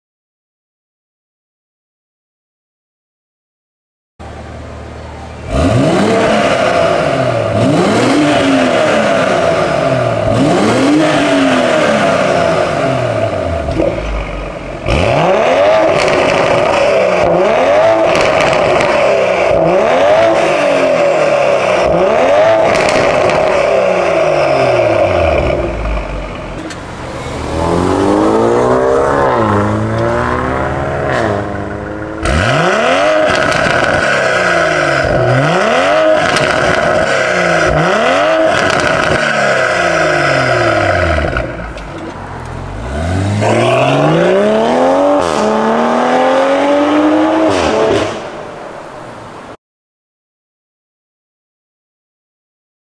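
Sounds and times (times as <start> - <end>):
car engine revving: 4.2 - 49.5.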